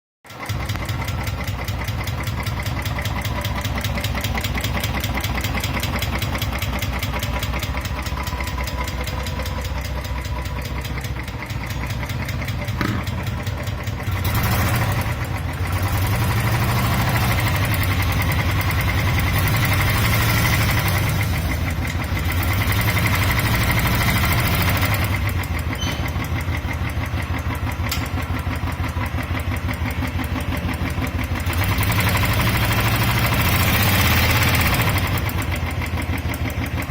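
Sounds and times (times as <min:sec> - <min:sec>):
motorcycle engine running: 0:00.3 - 0:36.9
rhythmic engine ticking: 0:00.3 - 0:36.9.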